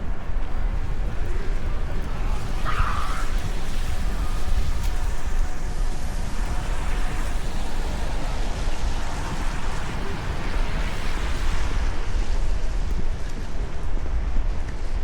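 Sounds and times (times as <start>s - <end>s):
city street noise: 0.0s - 15.0s.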